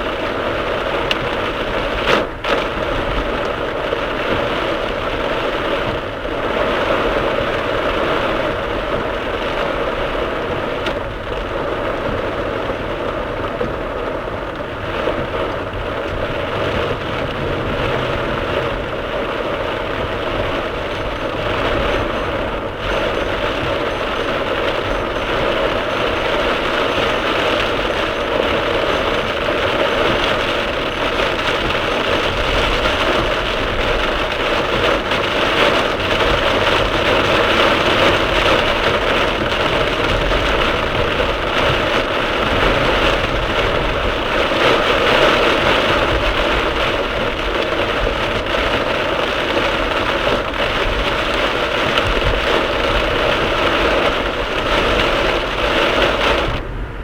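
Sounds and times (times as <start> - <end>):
car road noise: 0.0 - 57.0
heavy rain hissing on car: 0.0 - 57.0.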